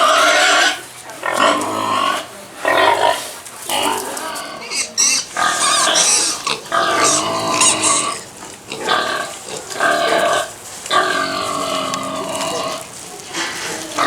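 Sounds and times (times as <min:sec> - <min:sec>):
pigs squealing: 0:00.0 - 0:14.0.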